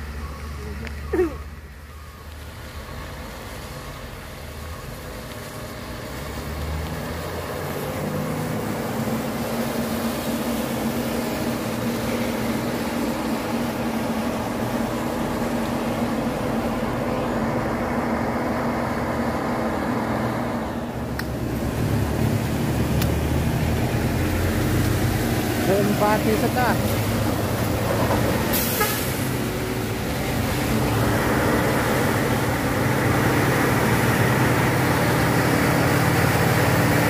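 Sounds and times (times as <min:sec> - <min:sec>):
rain on wet road: 0:00.0 - 0:37.0
truck diesel engine running: 0:00.0 - 0:37.0.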